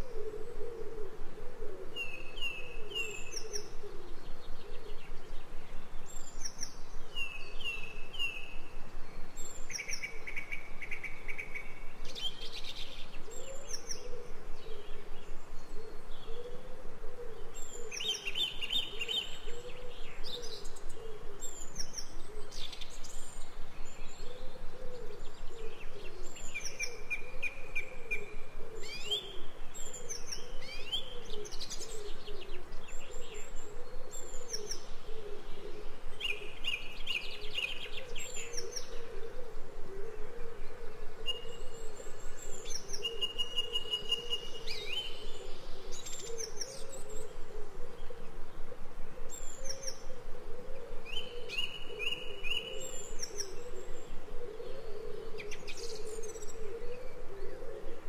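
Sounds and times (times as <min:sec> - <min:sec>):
songbirds singing and trilling: 0:00.0 - 0:58.0.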